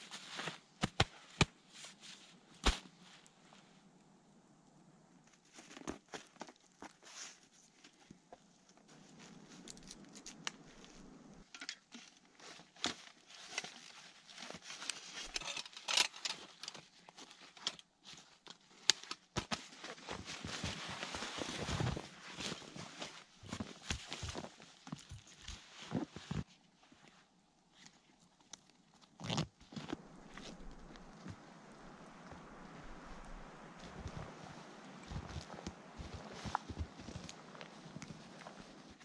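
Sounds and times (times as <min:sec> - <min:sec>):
rustling and crinkling of fabric: 0:00.0 - 0:04.0, 0:05.2 - 0:39.0.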